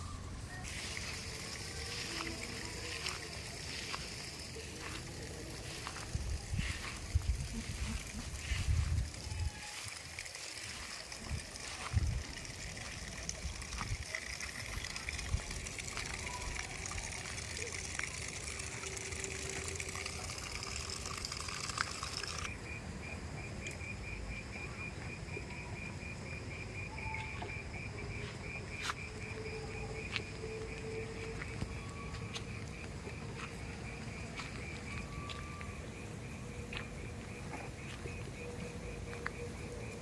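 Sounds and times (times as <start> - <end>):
insects chirping: 0.0 - 40.0
outdoor background noise: 0.0 - 40.0.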